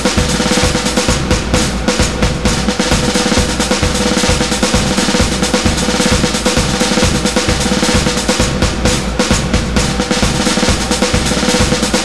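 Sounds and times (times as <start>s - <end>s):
fast drum beat: 0.0s - 12.0s.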